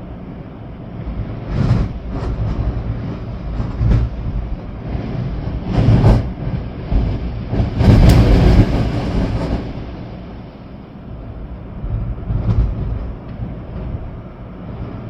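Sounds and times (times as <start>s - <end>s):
storm wind gusting: 0.0s - 15.0s
wind buffeting microphone: 0.0s - 15.0s.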